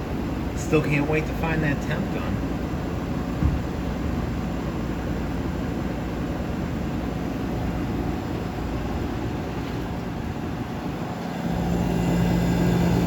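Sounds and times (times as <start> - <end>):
air conditioner fan blowing: 0.0 - 13.0
compressor hum: 0.0 - 13.0.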